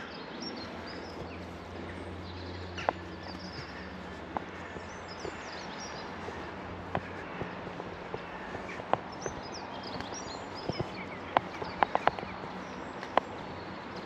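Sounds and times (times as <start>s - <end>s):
small birds chirping: 0.0s - 14.0s
footsteps: 0.6s - 14.0s.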